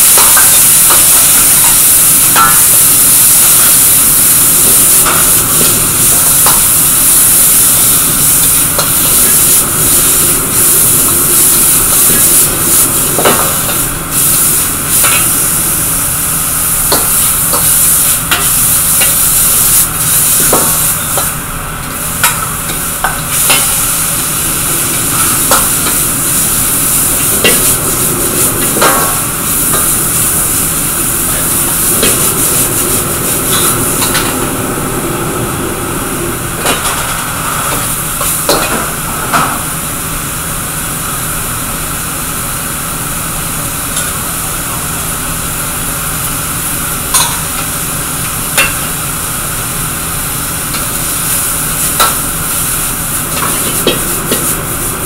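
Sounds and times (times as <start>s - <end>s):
vegetables sizzling in a wok: 0.0s - 55.0s.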